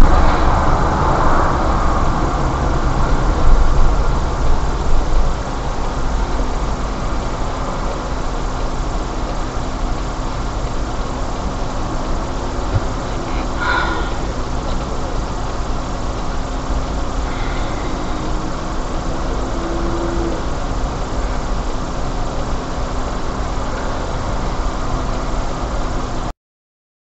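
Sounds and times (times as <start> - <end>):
car engine idling: 0.0 - 26.3
constant low hum: 0.0 - 26.3
surrounding traffic: 0.0 - 26.3.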